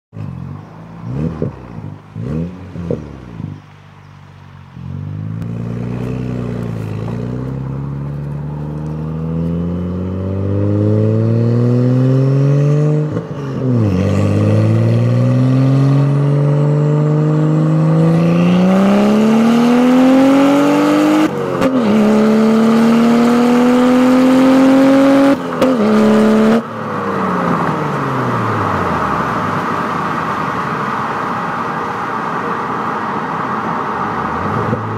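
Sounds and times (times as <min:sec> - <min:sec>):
car engine revving: 0:00.1 - 0:34.9.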